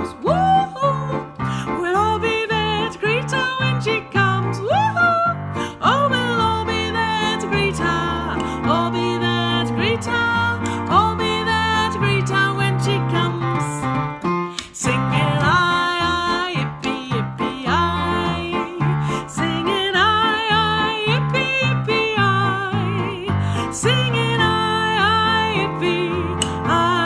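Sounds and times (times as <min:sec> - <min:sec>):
bouncing bass: 0:00.0 - 0:27.0
keyboard music: 0:00.0 - 0:27.0.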